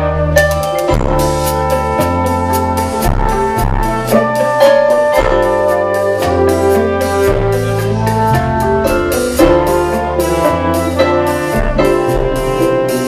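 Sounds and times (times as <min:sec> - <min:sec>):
brass chords: 0:00.0 - 0:13.0
drum kit with cymbals: 0:00.0 - 0:13.0
electric bass line: 0:00.0 - 0:13.0
jazz band playing: 0:00.0 - 0:13.0.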